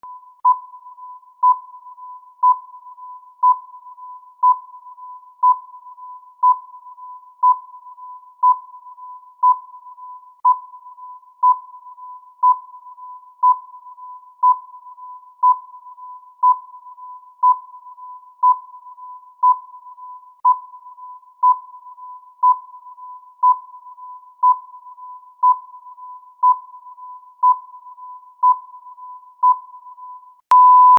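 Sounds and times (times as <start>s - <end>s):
faint steady tone: 0.0s - 30.9s
timer beeps: 0.0s - 30.9s.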